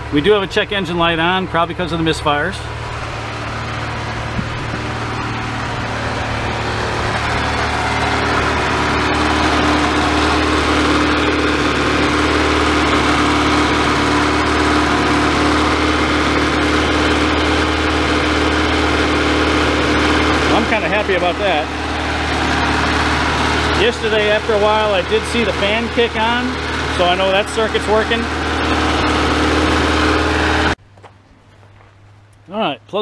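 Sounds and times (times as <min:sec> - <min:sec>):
car engine idling with misfire: 0:00.0 - 0:33.0.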